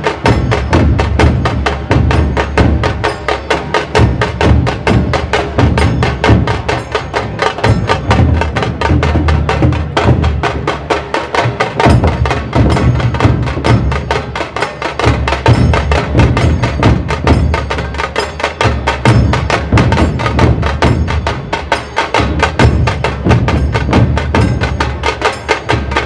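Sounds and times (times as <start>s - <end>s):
deep drum beats: 0.0s - 26.0s.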